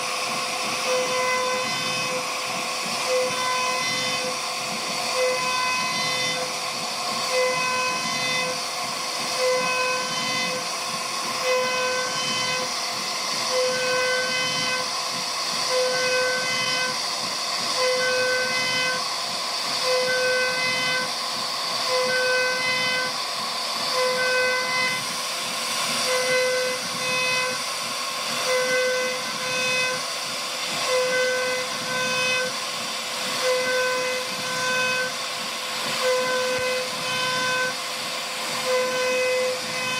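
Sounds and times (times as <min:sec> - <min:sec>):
bit cutting wood hiss: 0:00.0 - 0:39.9
router spindle whining: 0:00.0 - 0:39.9.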